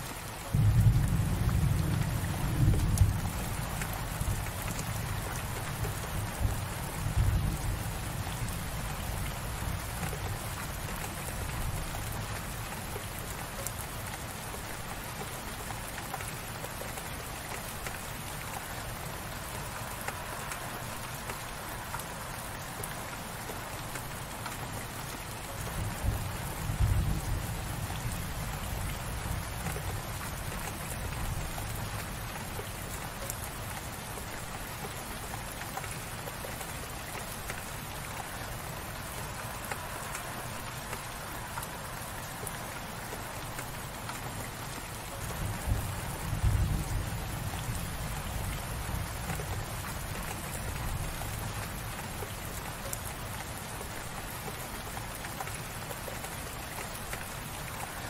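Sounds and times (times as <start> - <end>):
light rain: 0.0 - 58.0.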